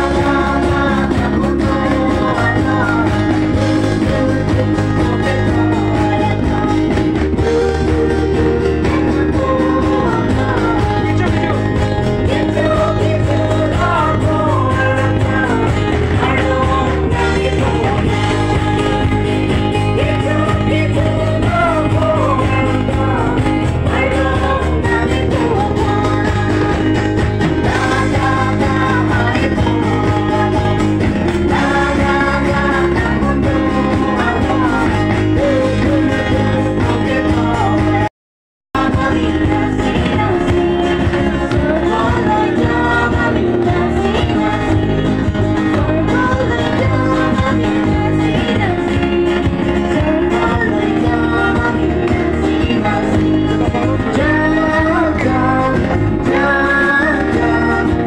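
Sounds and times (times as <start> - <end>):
drums: 0.0 - 38.1, 38.8 - 58.0
guitar: 0.0 - 38.1, 38.7 - 58.0
singers leading a song: 0.0 - 38.1, 38.8 - 58.0.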